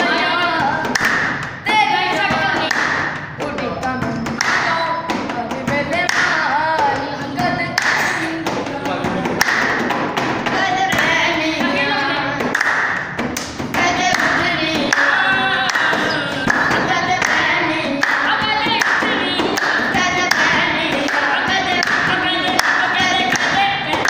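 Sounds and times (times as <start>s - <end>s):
boys singing: 0.0s - 24.0s
hand claps: 0.8s - 3.4s, 4.2s - 7.0s, 7.7s - 11.2s, 12.4s - 24.0s.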